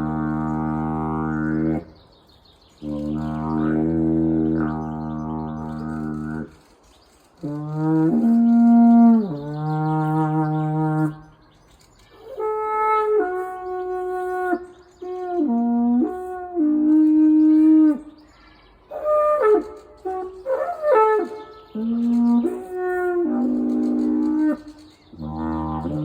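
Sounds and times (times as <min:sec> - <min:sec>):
ancient trumpet notes: 0:00.0 - 0:02.0, 0:02.8 - 0:06.6, 0:07.4 - 0:11.4, 0:12.0 - 0:26.0.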